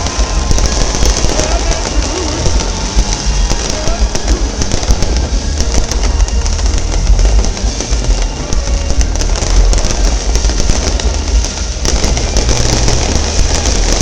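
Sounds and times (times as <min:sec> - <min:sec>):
deep rumble: 0:00.0 - 0:14.0
firework crackle: 0:00.0 - 0:14.0
firework shells bursting: 0:00.0 - 0:14.0.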